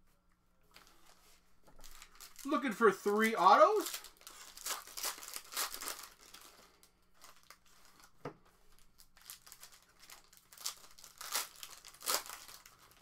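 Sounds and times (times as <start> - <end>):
plastic wrappers crinkling and tearing: 0.7 - 13.0.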